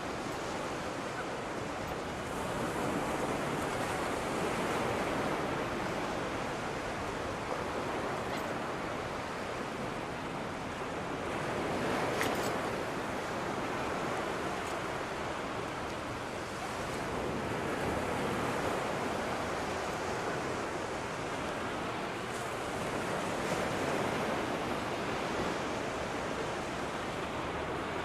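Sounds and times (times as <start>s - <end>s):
surf washing ashore: 0.0s - 28.0s.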